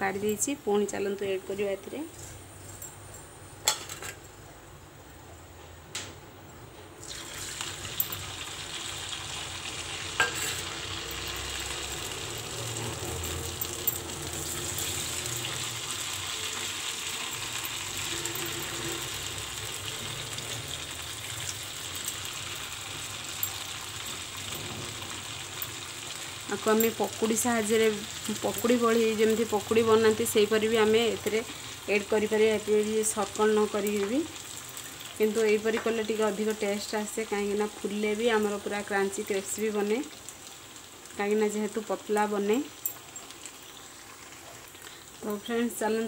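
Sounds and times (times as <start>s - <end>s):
food sizzling in hot oil: 7.0s - 46.0s.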